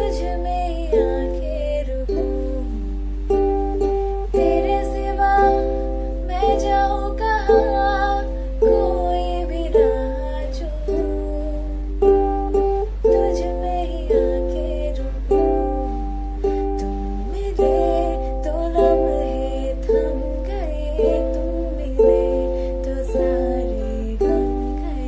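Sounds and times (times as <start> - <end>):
steady low hum: 0.0 - 25.0
strummed acoustic string chords: 0.0 - 25.0
wavering melody line: 0.0 - 25.0.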